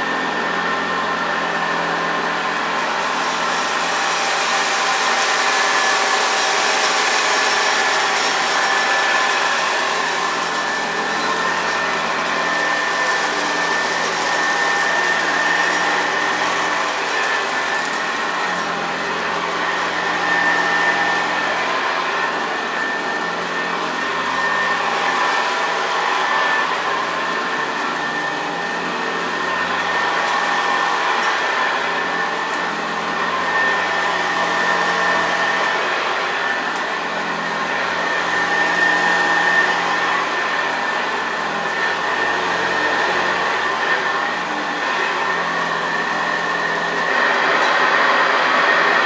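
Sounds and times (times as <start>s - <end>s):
brush roll grinding rice: 0.0s - 49.0s
upright vacuum cleaner whining: 0.0s - 49.0s.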